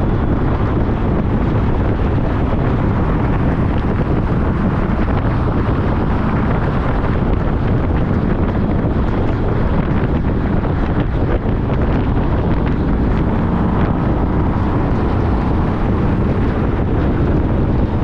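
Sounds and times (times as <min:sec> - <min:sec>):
motorcycle riding at speed: 0:00.0 - 0:18.0
wind buffeting microphone: 0:00.0 - 0:18.0.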